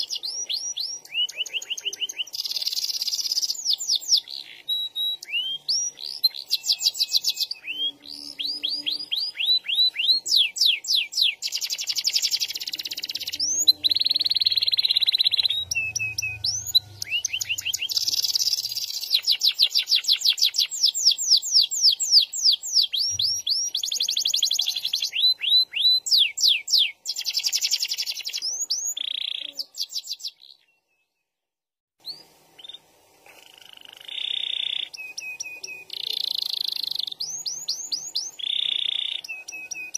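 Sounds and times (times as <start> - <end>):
canary singing: 0.0 - 31.1, 32.0 - 39.9.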